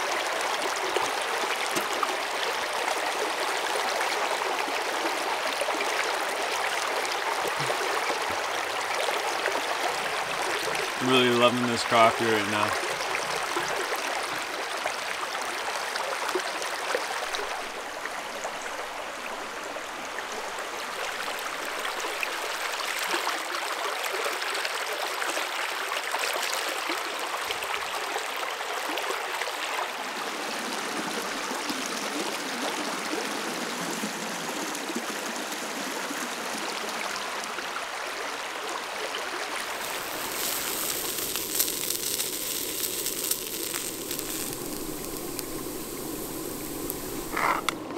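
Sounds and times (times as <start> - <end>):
river water rushing: 0.0 - 33.4, 34.0 - 47.9.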